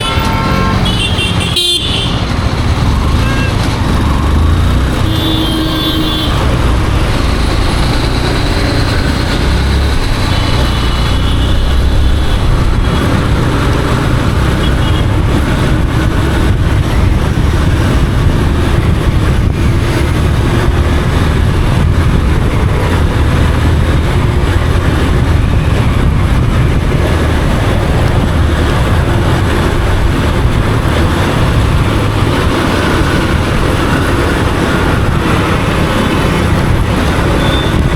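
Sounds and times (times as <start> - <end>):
motorcycle engine rumble: 0.0 - 37.9
traffic: 0.0 - 37.9
wind and road noise: 0.0 - 37.9.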